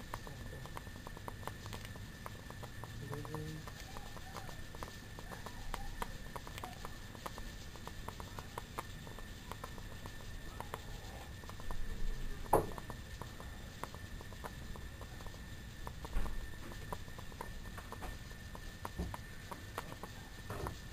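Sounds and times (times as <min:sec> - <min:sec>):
light clicking pops: 0:00.0 - 0:20.9.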